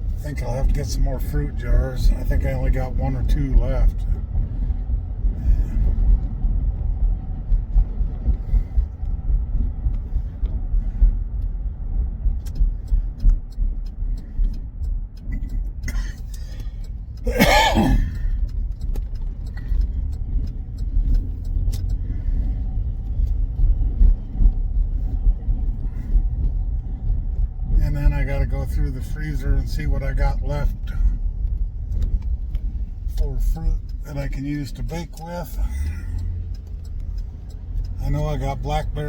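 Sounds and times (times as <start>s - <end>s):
car cabin road rumble: 0.0s - 39.0s.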